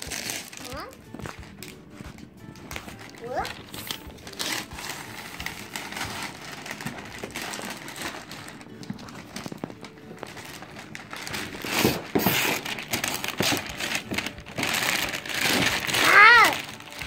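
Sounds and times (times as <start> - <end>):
wrapping paper crinkling: 0.0 - 17.0.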